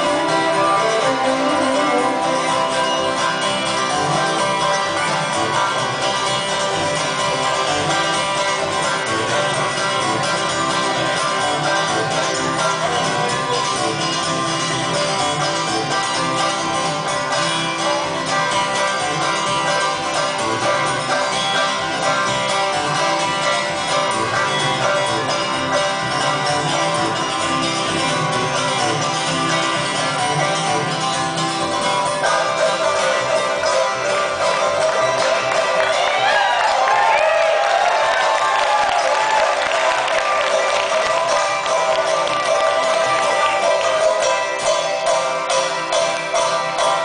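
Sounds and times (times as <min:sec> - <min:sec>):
banjo picked clawhammer style: 0:00.0 - 0:47.0.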